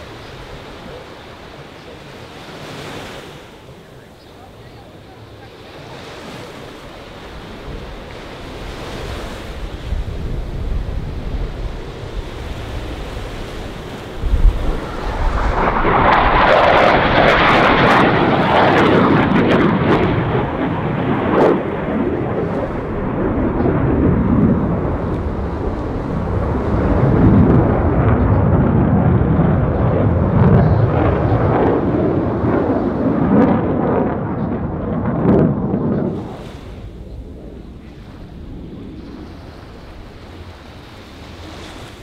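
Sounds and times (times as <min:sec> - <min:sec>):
jet engine roar with crackling: 0:00.0 - 0:42.0.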